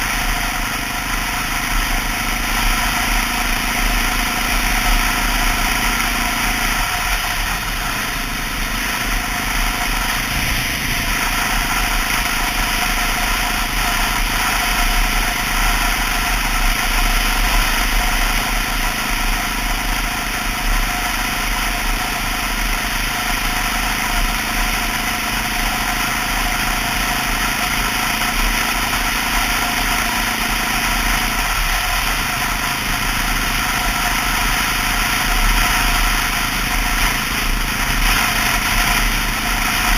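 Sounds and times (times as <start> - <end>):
constant rushing noise: 0.0 - 39.9
motorcycle engine running: 0.0 - 39.9.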